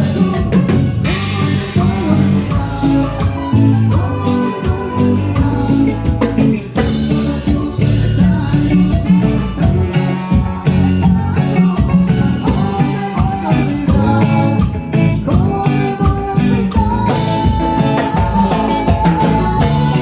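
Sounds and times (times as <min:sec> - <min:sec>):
latin band music: 0:00.0 - 0:20.0.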